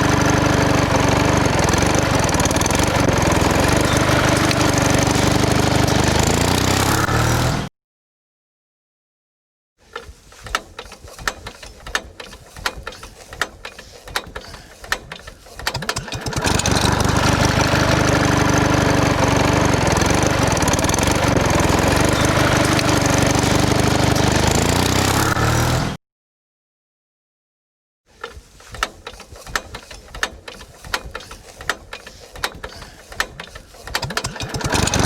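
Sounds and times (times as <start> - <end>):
small engine starting and running: 0.0 - 7.7, 9.9 - 26.0, 28.2 - 35.0.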